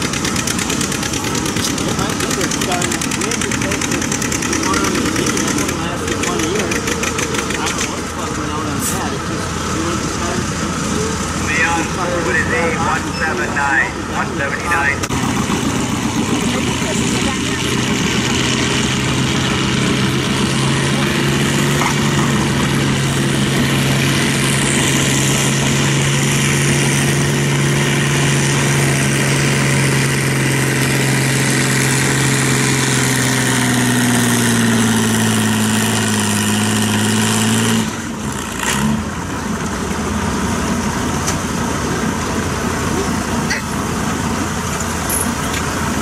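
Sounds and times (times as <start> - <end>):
tractor engine working hard: 0.0 - 46.0.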